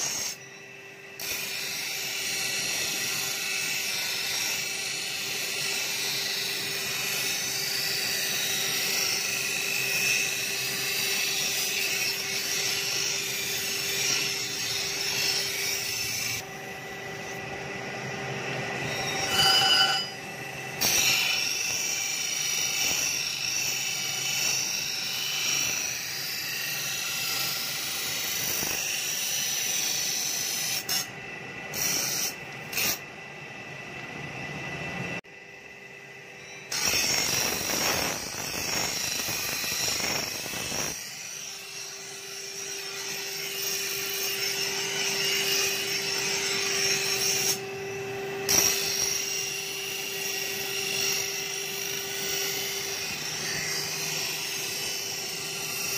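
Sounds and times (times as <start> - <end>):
blade grinding on wheel: 0.0 - 33.0, 36.4 - 55.9
grinding wheel hum: 0.0 - 55.9
pitched whine: 0.0 - 55.9.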